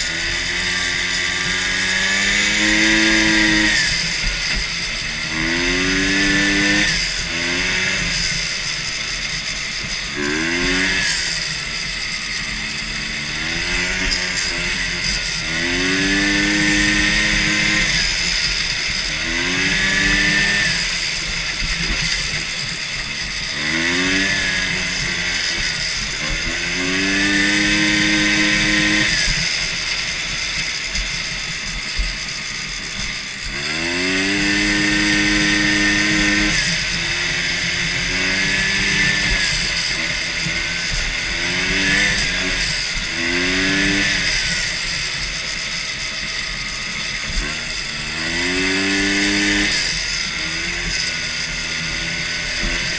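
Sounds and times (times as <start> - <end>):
two-stroke engine revving: 0.0 - 52.9.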